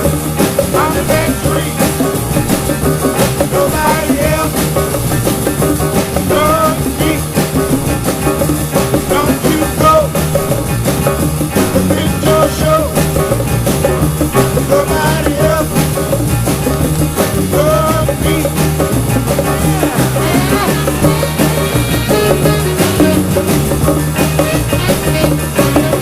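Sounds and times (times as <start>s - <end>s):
soul music record: 0.0s - 26.0s.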